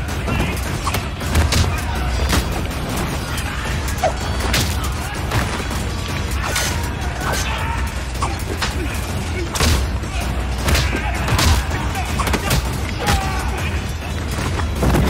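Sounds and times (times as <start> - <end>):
heavy low music score: 0.0 - 15.0.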